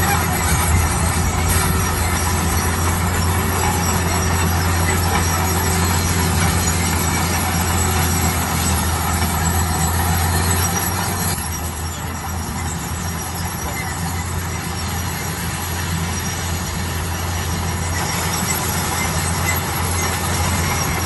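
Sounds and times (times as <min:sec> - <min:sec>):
diesel construction machine drone: 0:00.0 - 0:21.0
machinery rumble and rattle: 0:00.0 - 0:21.0.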